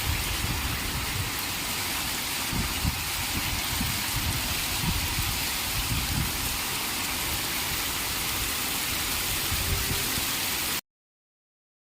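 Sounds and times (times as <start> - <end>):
heavy rain falling: 0.0 - 10.8.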